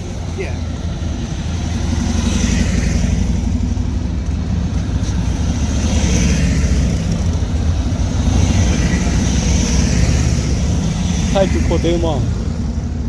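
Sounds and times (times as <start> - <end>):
road traffic rumble: 0.0 - 13.0
tyre hiss of passing vehicles: 0.0 - 13.0.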